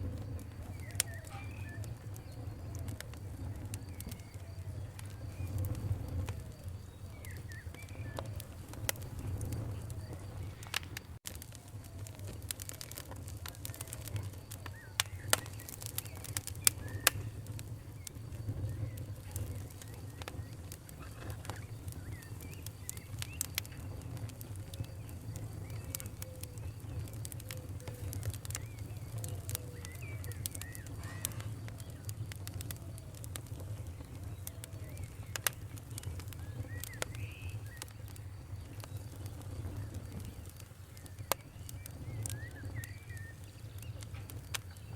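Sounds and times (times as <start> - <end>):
small birds chirping: 0.0 - 44.9
wood fire crackling: 0.0 - 44.9.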